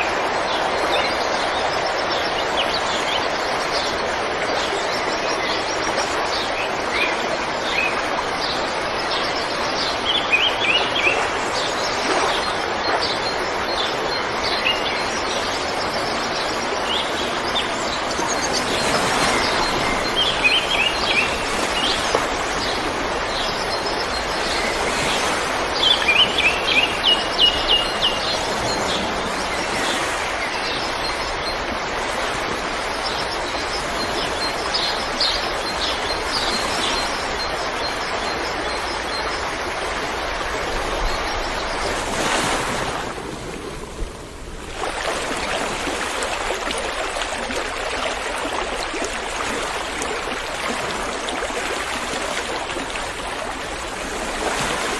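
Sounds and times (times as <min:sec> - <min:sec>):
river water flowing: 0:00.0 - 0:54.9.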